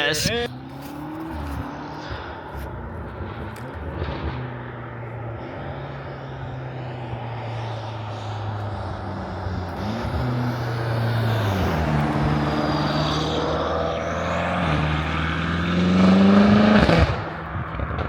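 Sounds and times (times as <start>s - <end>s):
car engine droning: 0.0s - 18.0s.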